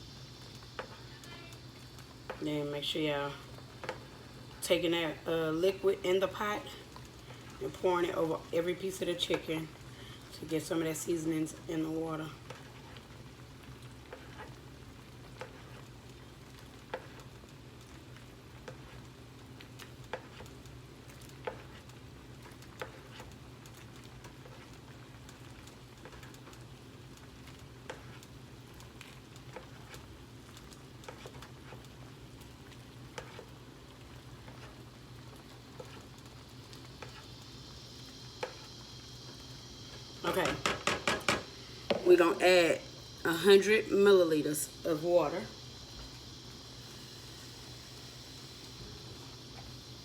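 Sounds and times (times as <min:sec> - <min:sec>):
pot simmering with sizzle: 0:00.0 - 0:50.0.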